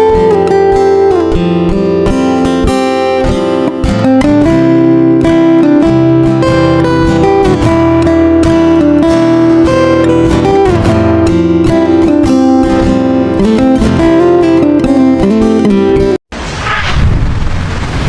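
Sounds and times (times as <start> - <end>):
acoustic guitar music: 0.0 - 16.2.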